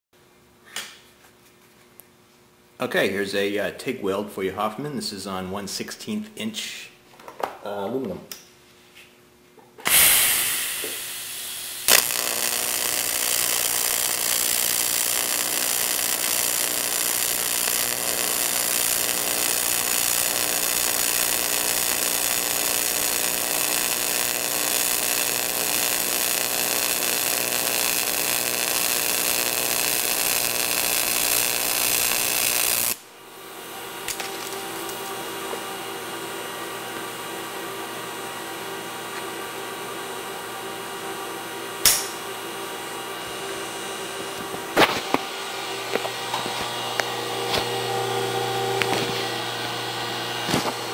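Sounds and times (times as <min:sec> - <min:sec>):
welder humming: 0:09.8 - 0:50.9
welding arc buzzing: 0:09.8 - 0:50.9.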